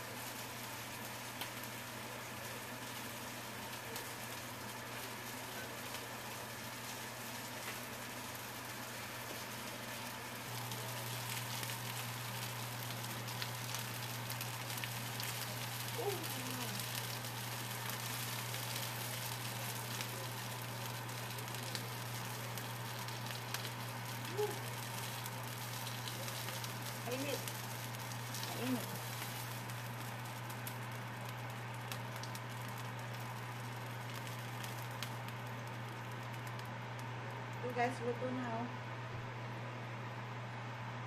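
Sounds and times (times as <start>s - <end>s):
food sizzling in pans: 0.0s - 37.1s
steady low hum: 0.0s - 41.0s.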